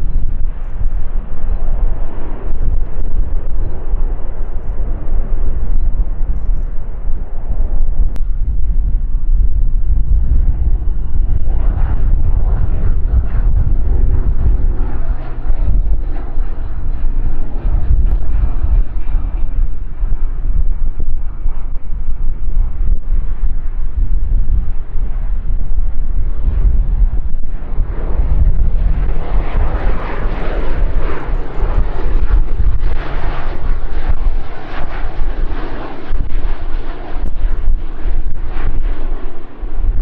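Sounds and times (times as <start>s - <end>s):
distant propeller plane drone: 0.0s - 40.0s.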